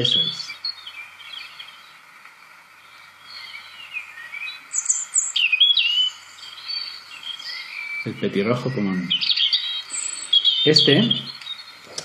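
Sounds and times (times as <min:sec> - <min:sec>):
background hiss: 0:00.0 - 0:12.0
robin singing: 0:00.0 - 0:12.0.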